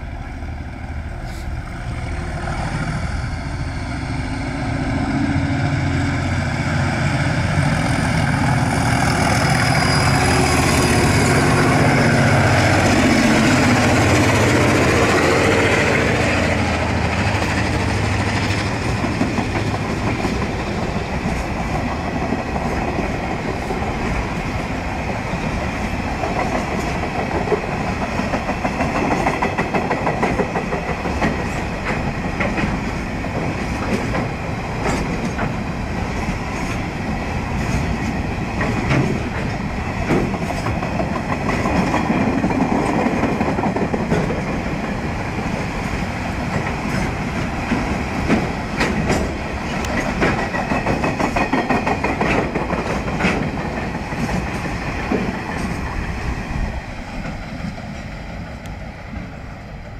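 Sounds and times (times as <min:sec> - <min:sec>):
steady train rumble: 0:00.0 - 0:59.9
train wheels clacking on rails: 0:02.2 - 0:59.9.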